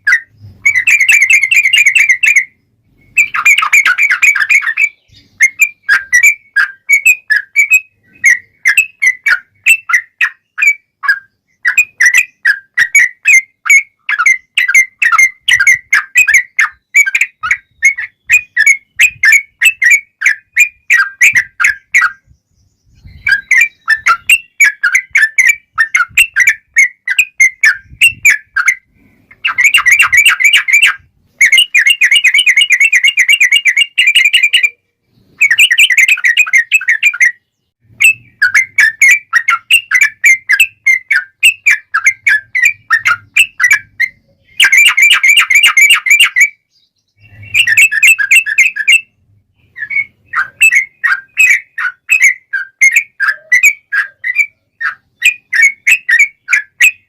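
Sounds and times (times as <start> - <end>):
bulbul singing: 0.0 - 57.0.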